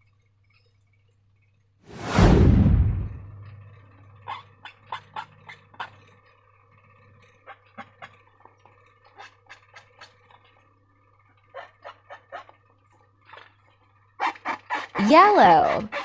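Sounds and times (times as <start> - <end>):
faint low hum: 0.0 - 14.2.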